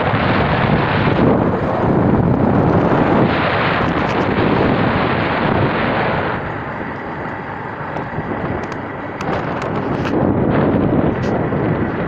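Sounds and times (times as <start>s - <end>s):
vehicle road noise: 0.0s - 12.0s
wind rushing over microphone: 0.0s - 12.0s.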